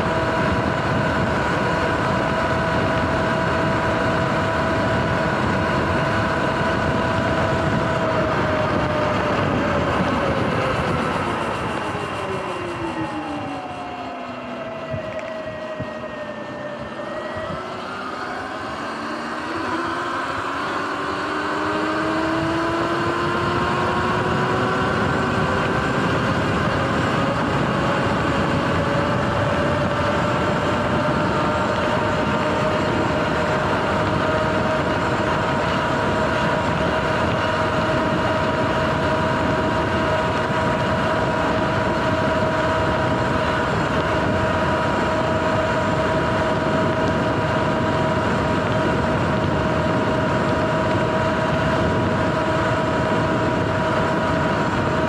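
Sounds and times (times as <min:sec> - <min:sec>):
electric dirt bike motor whining: 0:00.0 - 0:55.0
wind and tyre roar: 0:00.0 - 0:55.0.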